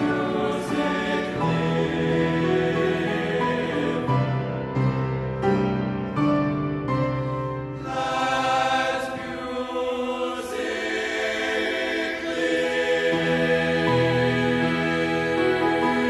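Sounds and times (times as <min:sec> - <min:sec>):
male choir singing: 0:00.0 - 0:05.2, 0:07.8 - 0:16.0
piano accompaniment: 0:00.0 - 0:16.0.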